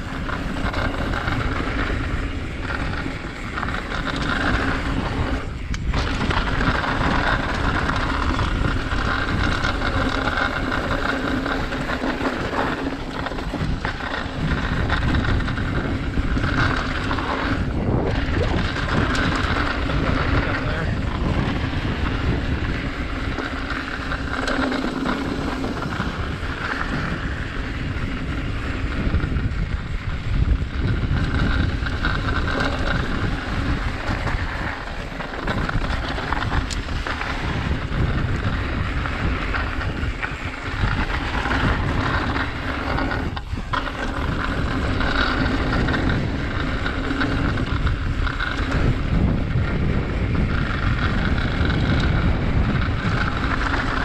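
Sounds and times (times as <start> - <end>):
bike tyres rumbling and rattling: 0.0 - 54.0
wind buffeting microphone: 0.0 - 54.0.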